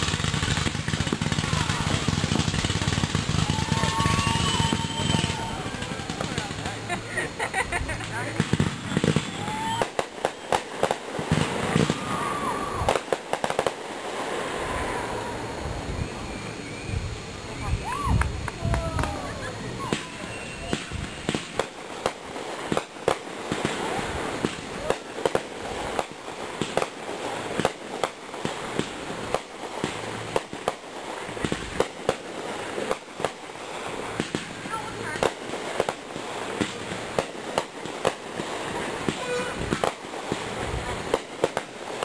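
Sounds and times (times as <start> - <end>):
fireworks bursting: 0.0 - 42.0.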